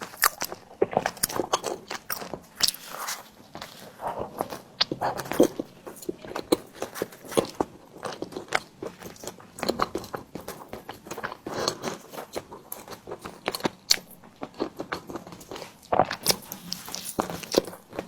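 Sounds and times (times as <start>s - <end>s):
person chewing with wet smacks: 0.0s - 18.0s.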